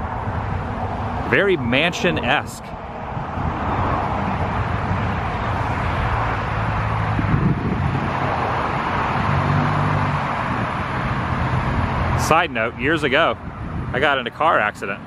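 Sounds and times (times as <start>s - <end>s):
low engine hum: 0.0s - 14.0s
passing cars: 0.0s - 15.0s.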